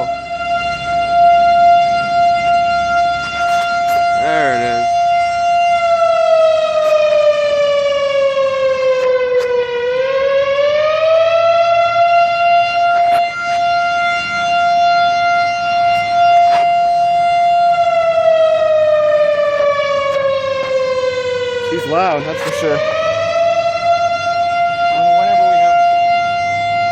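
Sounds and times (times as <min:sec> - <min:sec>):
air raid siren wailing: 0:00.0 - 0:26.9.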